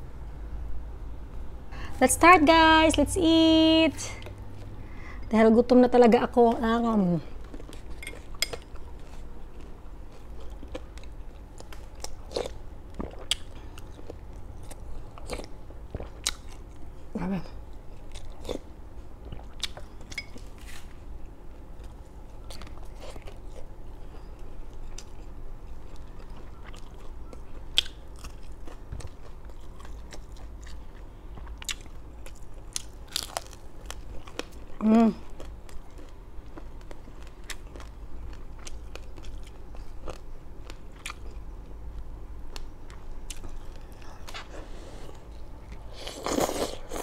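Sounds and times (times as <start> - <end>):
person chewing crispy food: 7.3 - 41.8, 42.4 - 47.0.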